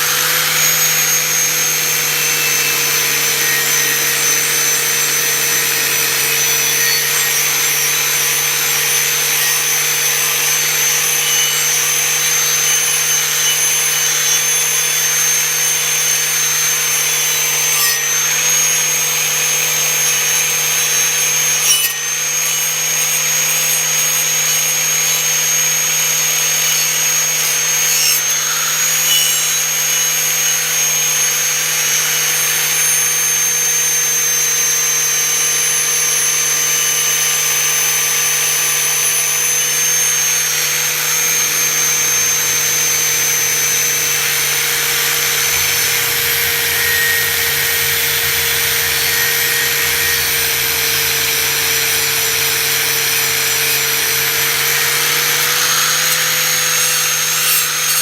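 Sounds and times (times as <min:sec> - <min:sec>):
angle grinder grinding metal: 0:00.0 - 0:58.0.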